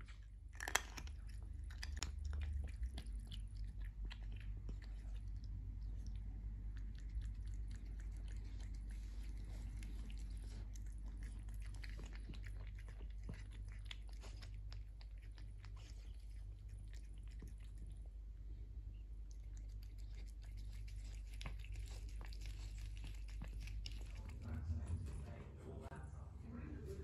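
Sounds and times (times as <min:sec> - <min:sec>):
cat chewing and lapping food: 0:00.0 - 0:27.0.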